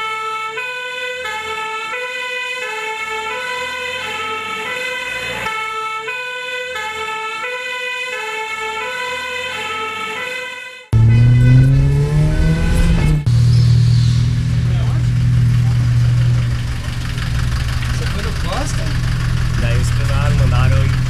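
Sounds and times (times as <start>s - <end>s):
warbling ambulance siren: 0.0s - 21.0s.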